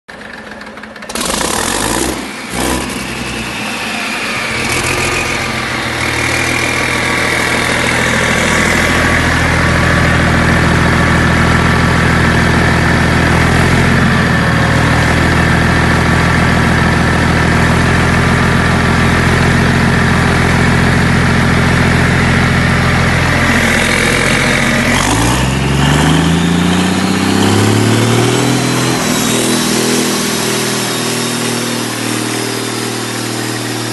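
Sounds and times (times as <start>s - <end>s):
diesel engine running with whine: 0.1s - 33.9s.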